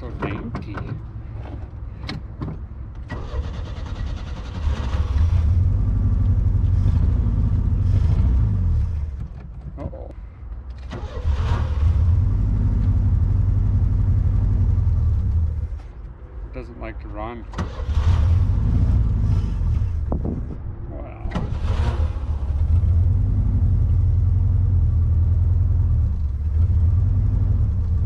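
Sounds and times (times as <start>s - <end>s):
car engine starting and running: 0.0s - 28.0s.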